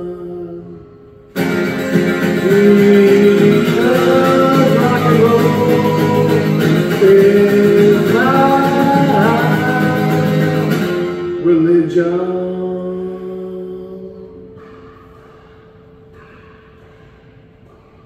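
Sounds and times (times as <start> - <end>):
man singing: 0.0 - 14.5
strummed acoustic guitar: 0.0 - 16.9.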